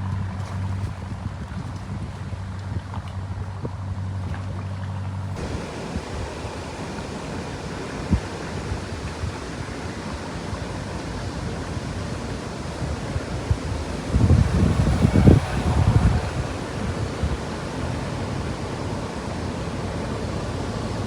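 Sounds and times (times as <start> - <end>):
wind buffeting microphone: 0.0 - 4.6, 5.4 - 21.0
boat engine drone: 0.0 - 21.0.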